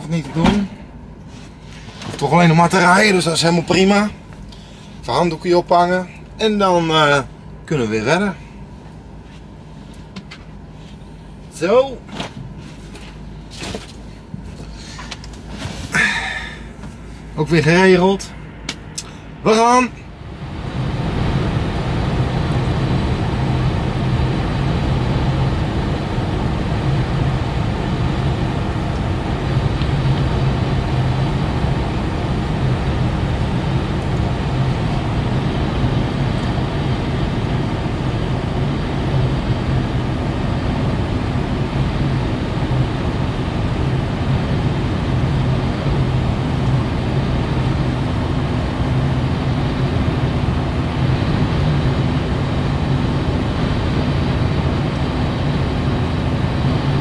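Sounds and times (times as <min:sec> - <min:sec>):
truck engine drone: 0:00.0 - 0:57.0
road and tyre noise: 0:08.8 - 0:57.0.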